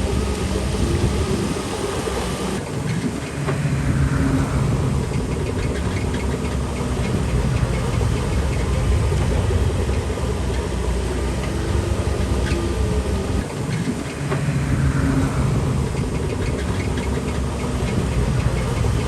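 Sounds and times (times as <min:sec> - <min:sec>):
bulldozer diesel engine: 0:00.0 - 0:19.0
track clatter: 0:00.0 - 0:19.0.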